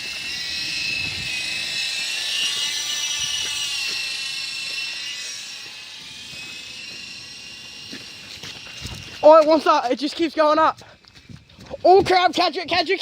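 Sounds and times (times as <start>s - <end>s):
rc helicopter motor whining: 0.0s - 13.0s.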